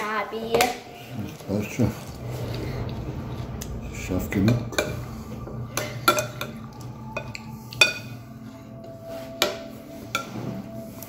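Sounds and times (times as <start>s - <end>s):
steady low hum: 0.7s - 10.8s.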